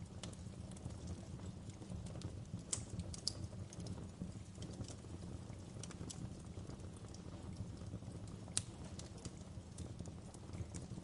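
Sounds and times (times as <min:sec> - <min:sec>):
low rumble of flames: 0:00.0 - 0:11.0
wood fire crackling and popping: 0:00.0 - 0:11.0.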